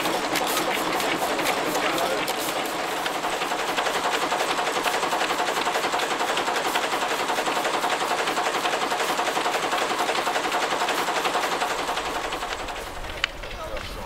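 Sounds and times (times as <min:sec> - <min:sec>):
marine engine running: 0:00.0 - 0:14.0.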